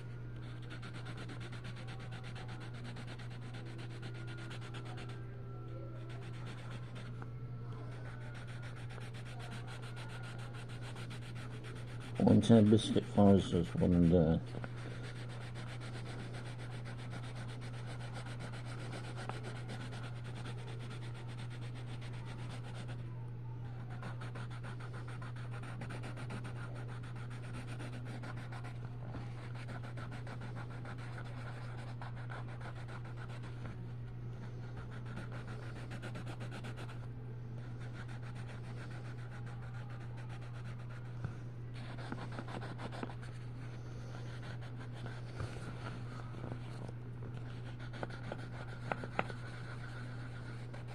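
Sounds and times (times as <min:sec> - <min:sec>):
steady low hum: 0:00.0 - 0:50.9
pencil scratching on paper: 0:00.4 - 0:05.2, 0:06.0 - 0:07.1, 0:07.8 - 0:23.0, 0:23.8 - 0:33.8, 0:34.4 - 0:41.1, 0:41.8 - 0:46.8, 0:47.4 - 0:50.9.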